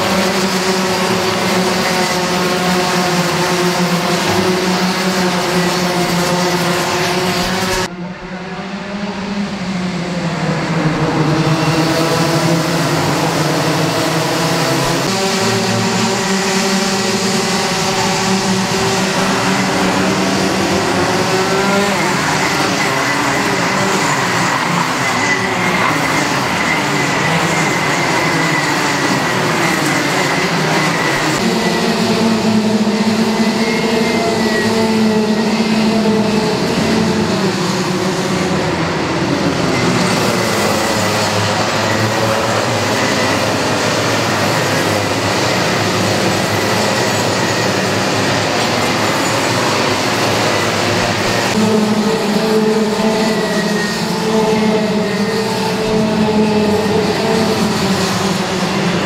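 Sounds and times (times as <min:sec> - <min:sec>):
racing kart engines passing: 0:00.0 - 0:59.0.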